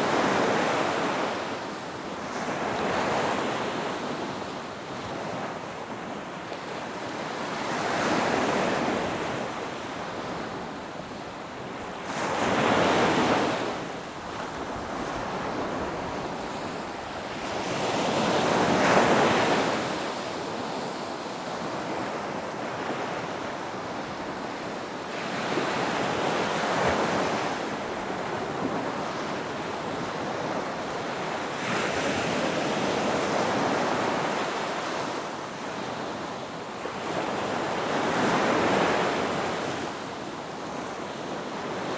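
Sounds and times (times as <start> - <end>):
ocean waves crashing on shore: 0.0 - 41.9.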